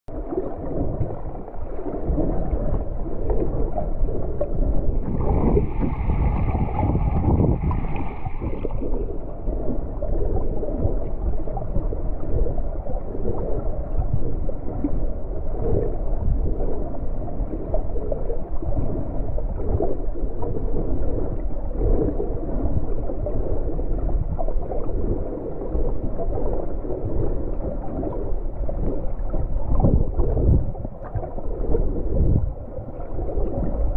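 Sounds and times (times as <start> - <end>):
underwater rumble and gurgle: 0.1 - 33.9.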